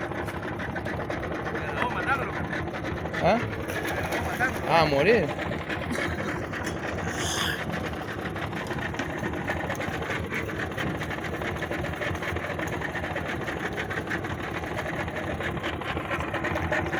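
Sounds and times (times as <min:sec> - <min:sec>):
outboard motor running: 0:00.0 - 0:16.9.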